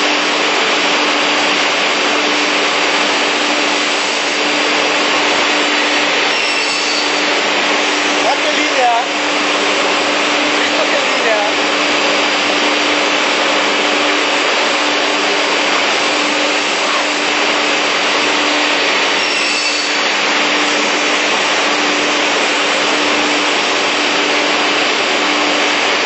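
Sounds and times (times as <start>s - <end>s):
saw machine whirring: 0.0s - 26.0s.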